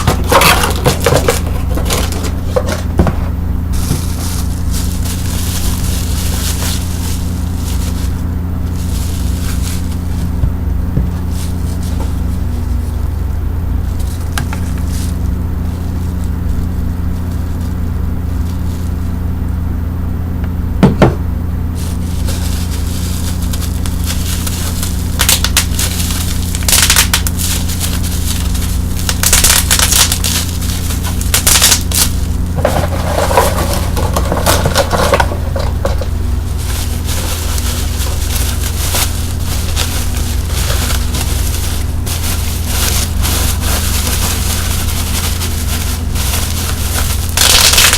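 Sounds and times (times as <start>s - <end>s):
bubble wrap popping: 0.0s - 13.1s, 13.8s - 19.2s, 21.8s - 47.9s
plastic packaging crinkling: 0.0s - 19.2s, 21.7s - 47.9s
low hum: 0.0s - 47.9s.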